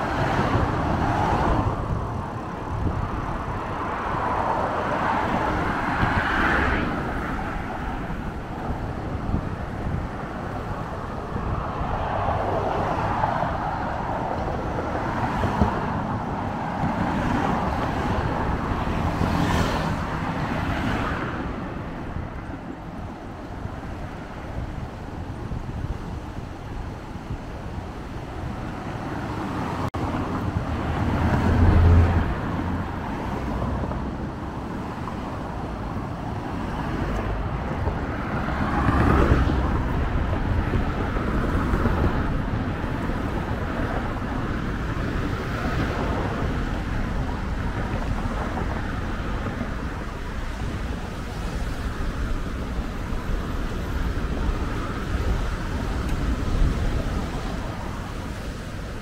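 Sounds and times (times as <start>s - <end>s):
cars passing: 0.0s - 59.0s
road noise rushing: 0.0s - 59.0s.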